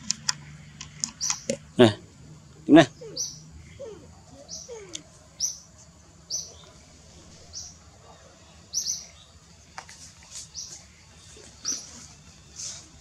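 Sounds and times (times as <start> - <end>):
bird chirping: 0.4 - 12.8.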